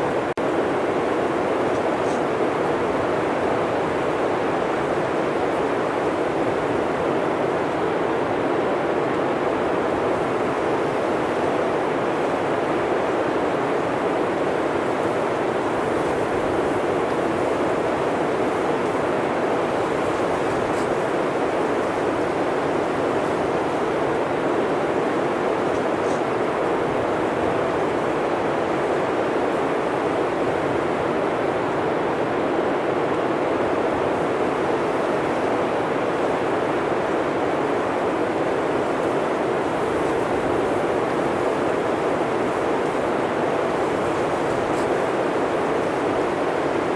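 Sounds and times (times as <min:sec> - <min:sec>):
blizzard wind blowing: 0:00.0 - 0:46.9.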